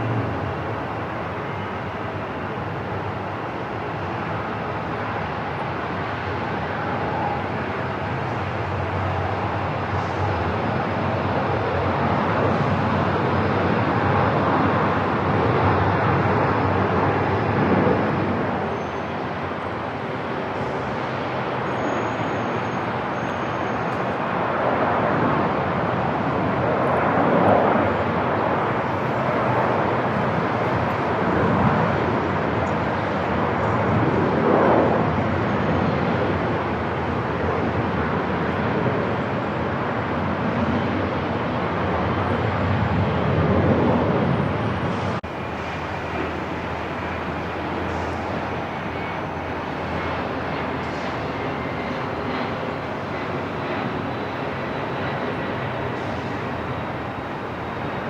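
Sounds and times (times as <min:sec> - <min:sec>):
aircraft engine: 0:00.0 - 0:58.0
airport ambient noise: 0:00.0 - 0:58.0.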